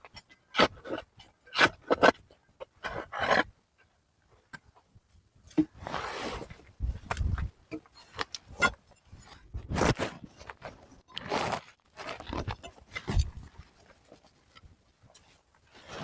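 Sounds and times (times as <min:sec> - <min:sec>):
crunching and scraping: 0:00.0 - 0:16.0.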